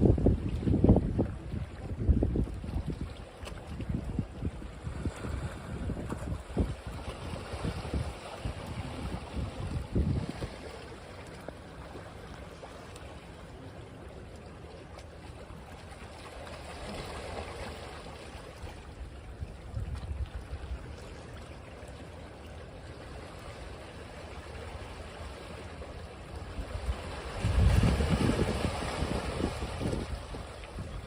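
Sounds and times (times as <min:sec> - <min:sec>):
ocean waves washing on beach: 0:00.0 - 0:31.0.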